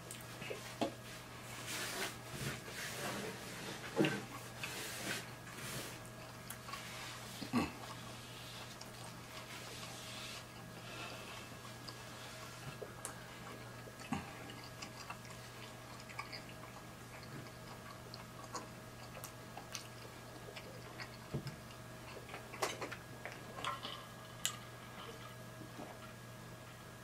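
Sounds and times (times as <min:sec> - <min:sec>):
soft chewing: 0:00.0 - 0:26.8
faint electrical hum: 0:00.0 - 0:27.0.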